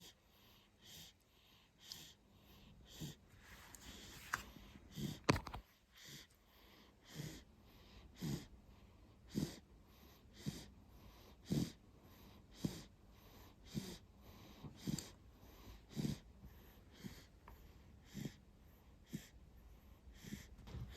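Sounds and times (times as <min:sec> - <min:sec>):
soft little snores: 0:00.0 - 0:05.3, 0:05.9 - 0:20.9.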